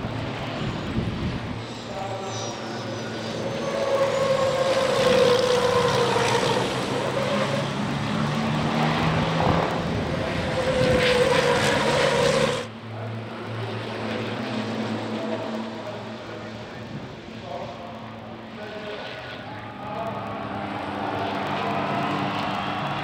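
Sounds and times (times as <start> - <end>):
truck engines racing past: 0.0 - 16.6, 18.7 - 23.0.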